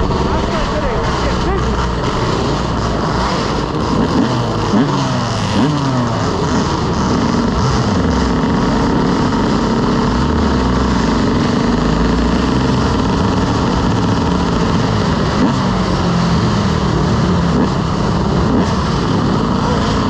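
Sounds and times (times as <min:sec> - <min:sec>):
motorcycle engine running: 0:00.0 - 0:20.0
steady rushing noise: 0:00.0 - 0:20.0.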